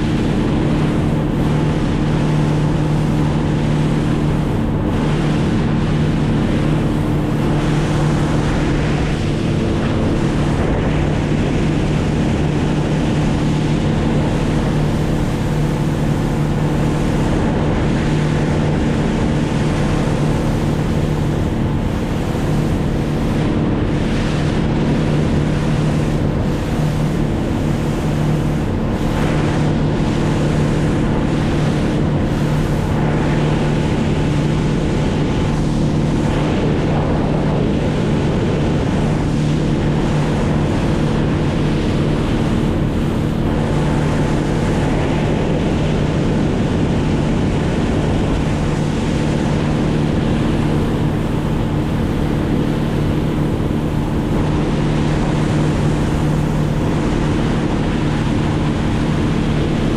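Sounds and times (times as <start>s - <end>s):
boat motor running: 0.0s - 59.9s
water rushing past hull: 0.0s - 59.9s
wind on microphone: 0.0s - 59.9s.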